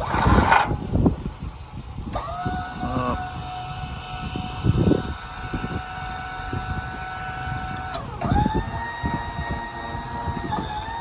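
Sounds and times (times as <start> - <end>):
crane mechanical whine: 0.0 - 11.0
wind gusts on microphone: 0.0 - 11.0.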